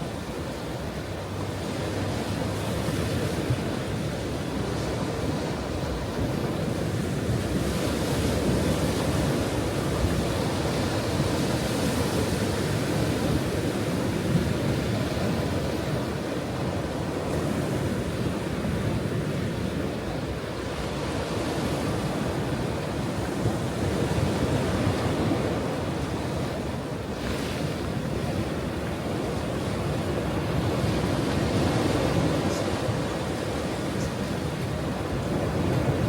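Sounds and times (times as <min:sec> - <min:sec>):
ocean waves washing onto shore: 0:00.0 - 0:36.0.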